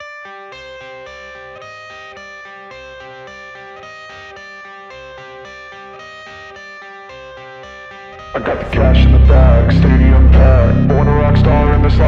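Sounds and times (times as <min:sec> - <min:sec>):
guitar-led instrumental music: 0:00.2 - 0:12.0.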